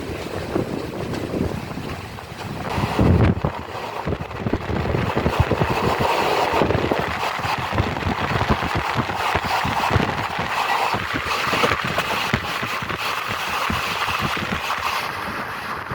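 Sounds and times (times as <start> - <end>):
train rumbling on track: 0.0 - 15.9
wind buffeting microphone: 0.0 - 15.9.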